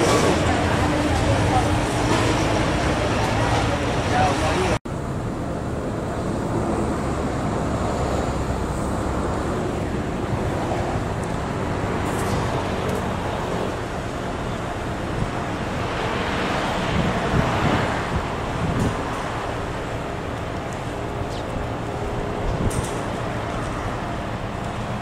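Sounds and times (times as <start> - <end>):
wind buffeting microphone: 5.0 - 25.0.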